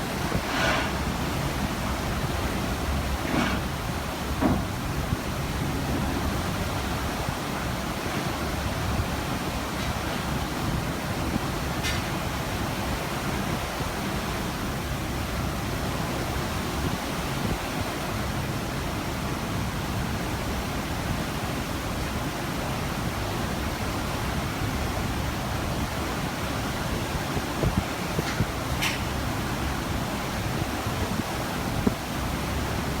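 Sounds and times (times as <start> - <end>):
ocean water rushing: 0.0 - 33.0.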